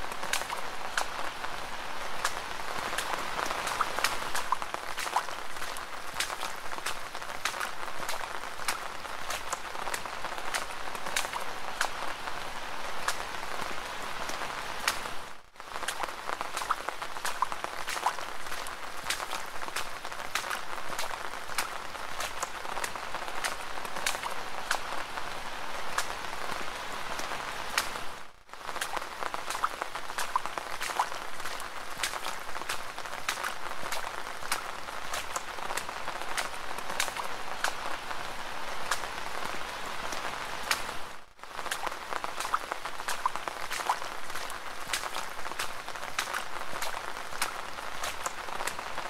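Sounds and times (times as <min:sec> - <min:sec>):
rain drops ticking: 0:00.0 - 0:49.0.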